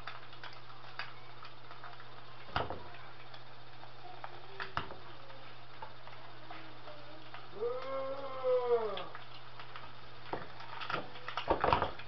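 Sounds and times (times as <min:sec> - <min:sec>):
eggs sizzling in a pan: 0:00.0 - 0:12.0
small pops and crackles: 0:00.0 - 0:12.0
steady low hum: 0:00.0 - 0:12.0.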